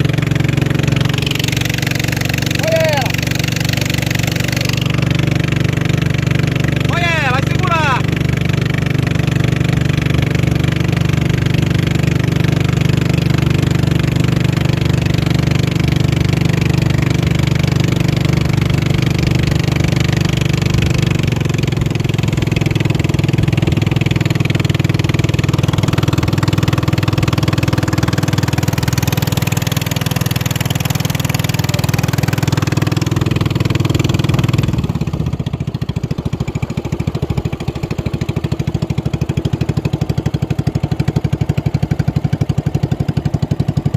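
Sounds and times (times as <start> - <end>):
racing boat engine running: 0.0 - 43.9.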